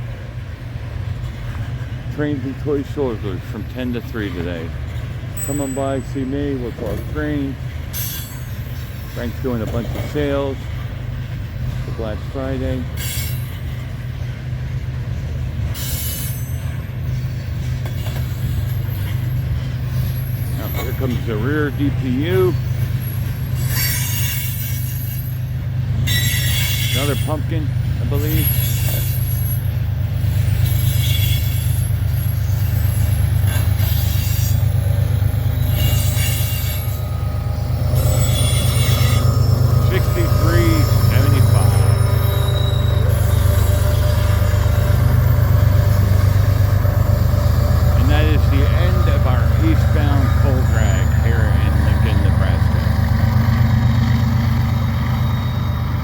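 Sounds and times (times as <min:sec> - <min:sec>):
freight train wheels rumbling: 0:00.0 - 0:56.0
high wheel squeals: 0:05.3 - 0:11.8, 0:12.4 - 0:14.3, 0:15.6 - 0:56.0.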